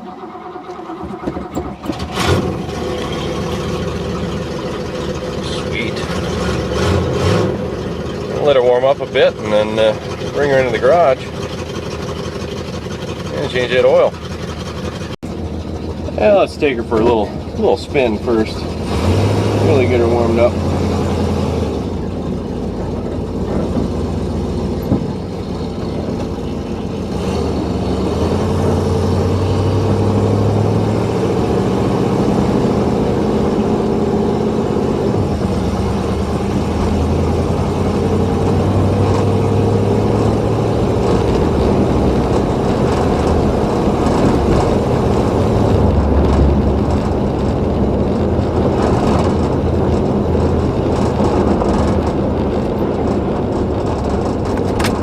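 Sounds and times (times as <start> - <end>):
car engine running while driving: 0.0 - 55.0.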